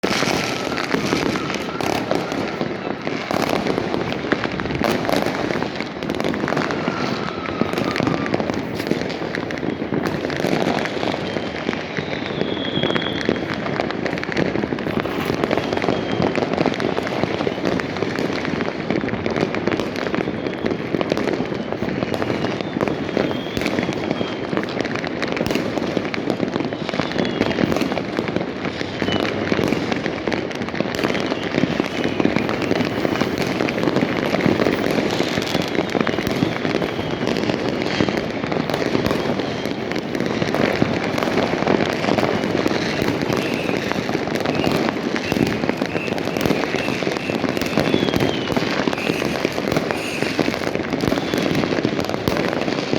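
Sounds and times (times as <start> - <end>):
fireworks crackling and popping: 0.0 - 52.9
high firework whistles: 0.0 - 52.9.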